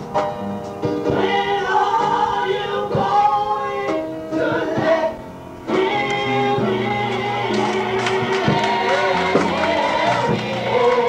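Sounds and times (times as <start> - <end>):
woman singing gospel song: 1.1 - 11.0.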